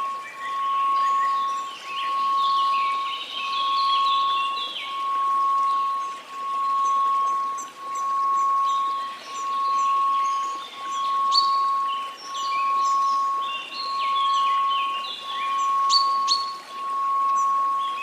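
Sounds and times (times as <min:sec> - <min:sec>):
faint white noise hiss: 0:00.0 - 0:18.0
sine tone: 0:00.0 - 0:18.0.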